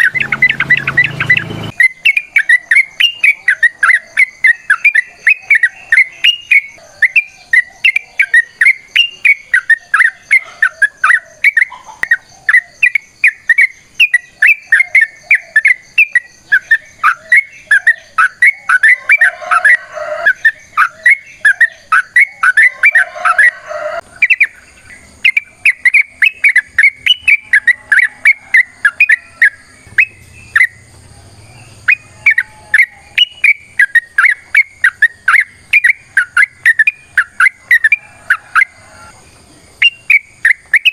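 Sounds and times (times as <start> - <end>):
bulbul singing chirping notes: 0.0 - 40.9.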